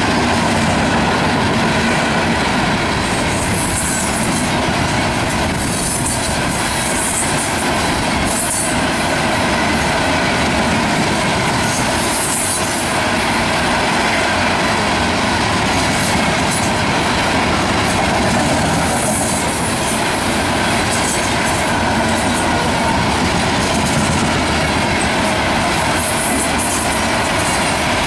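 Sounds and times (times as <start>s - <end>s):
train cars rumbling past: 0.0s - 28.0s.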